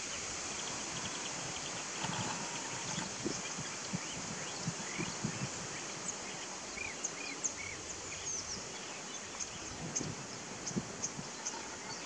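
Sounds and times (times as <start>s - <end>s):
songbirds chirping: 0.0s - 12.0s
steady hiss: 0.0s - 12.0s.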